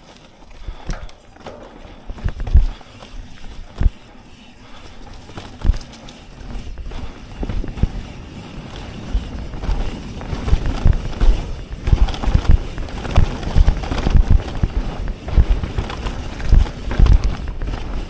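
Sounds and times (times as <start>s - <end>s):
bike knocks and rattles: 0.0s - 18.0s.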